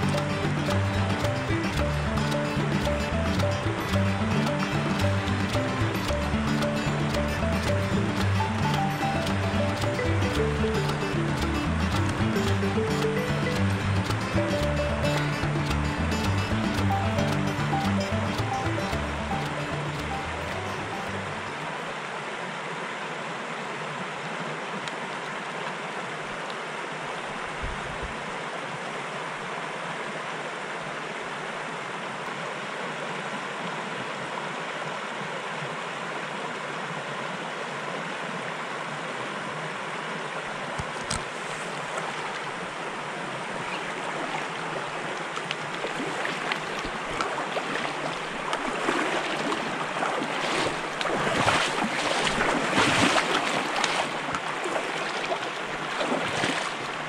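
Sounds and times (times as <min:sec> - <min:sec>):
stream water running over riffle: 0:00.0 - 0:57.0.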